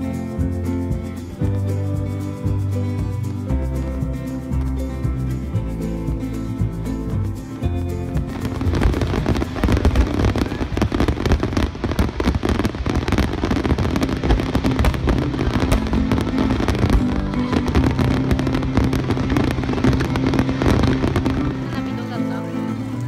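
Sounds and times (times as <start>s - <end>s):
firework bangs and crackles: 0.0s - 23.0s.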